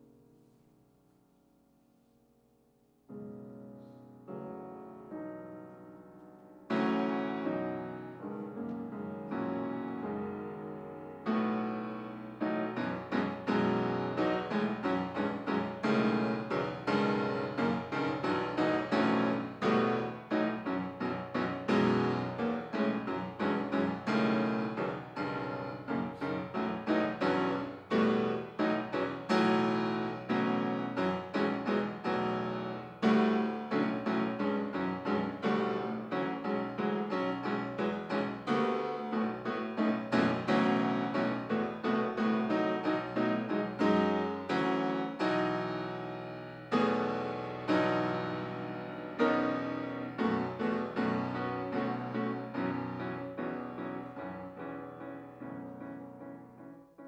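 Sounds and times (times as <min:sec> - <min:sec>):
grand piano playing: 0:00.0 - 0:00.8, 0:02.7 - 0:57.0.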